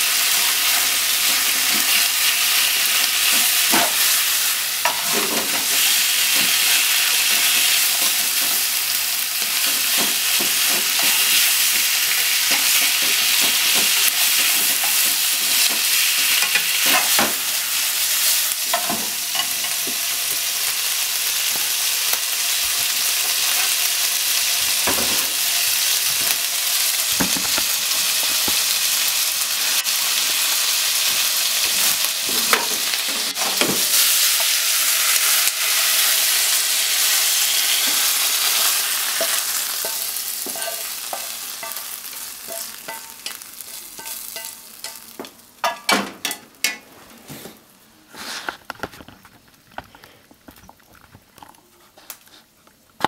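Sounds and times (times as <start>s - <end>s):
meat and onion sizzling in oil: 0.0s - 46.8s.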